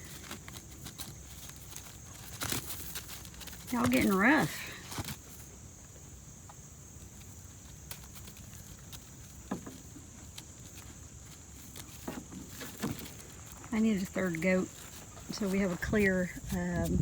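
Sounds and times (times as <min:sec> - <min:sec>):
goats scuffling: 0:00.0 - 0:17.0.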